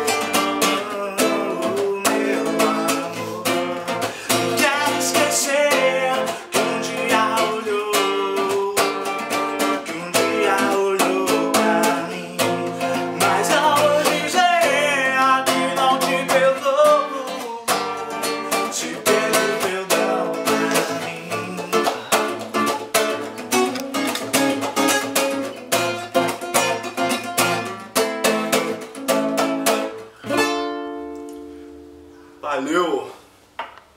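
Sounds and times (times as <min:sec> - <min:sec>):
plucked guitar-like strings melody: 0:00.0 - 0:32.3.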